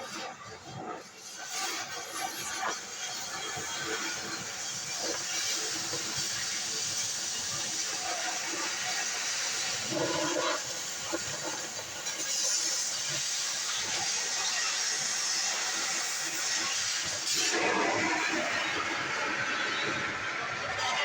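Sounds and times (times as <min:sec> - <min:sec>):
cutting torch hissing: 0:01.1 - 0:21.0.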